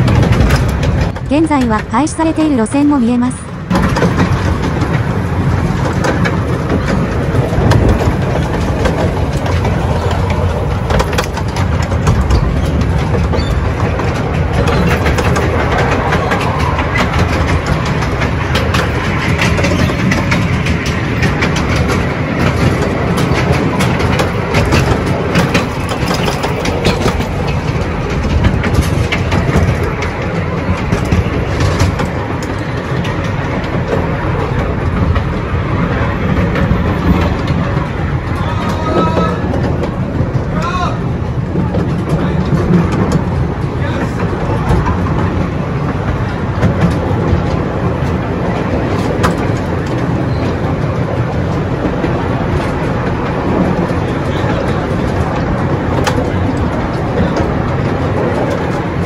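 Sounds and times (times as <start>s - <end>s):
rattling clicks of train wheels: 0.0s - 59.0s
train rumbling along track: 0.0s - 59.0s.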